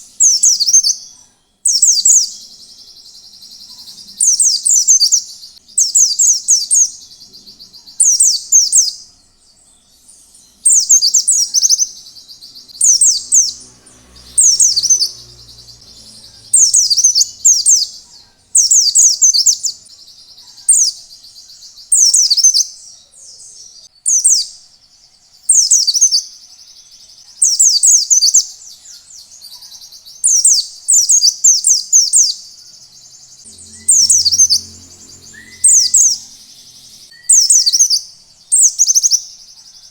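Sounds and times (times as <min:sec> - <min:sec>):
small bird singing high phrases: 0:00.0 - 0:39.9.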